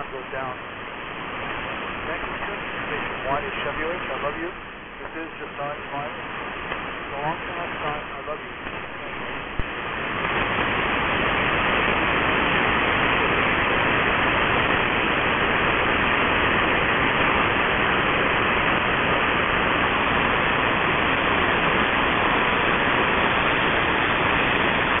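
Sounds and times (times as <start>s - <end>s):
shortwave radio static hiss: 0.0s - 25.0s.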